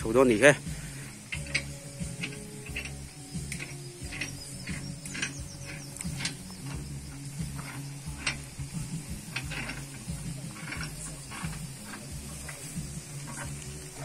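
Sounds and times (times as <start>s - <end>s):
winch gears clicking and scraping: 0.0s - 14.0s
electric winch motor hum: 0.6s - 14.0s.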